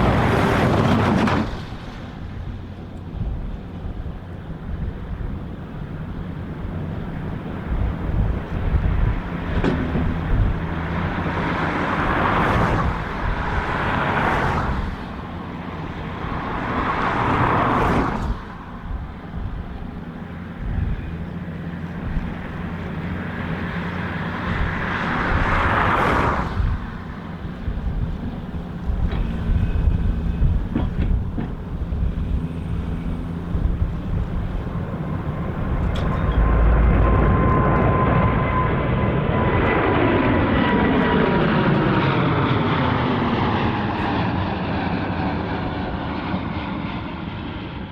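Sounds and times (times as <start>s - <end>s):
wind buffeting microphone: 0.0s - 46.3s
jet engines rumbling: 0.0s - 47.9s.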